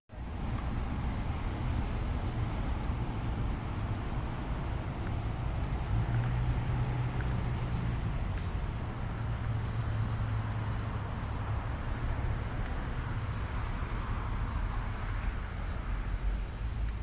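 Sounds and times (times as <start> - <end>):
train rumbling: 0.3 - 17.0.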